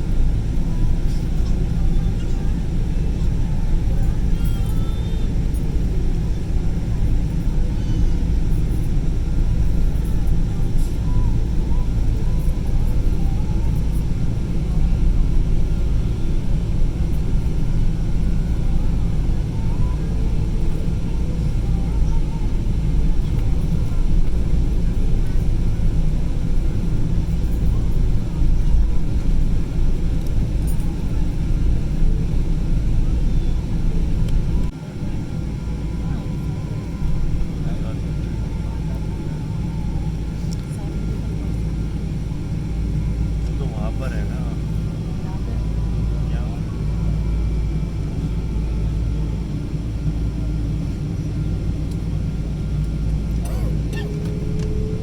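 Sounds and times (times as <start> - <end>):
aircraft engines low rumble: 0.0 - 55.0.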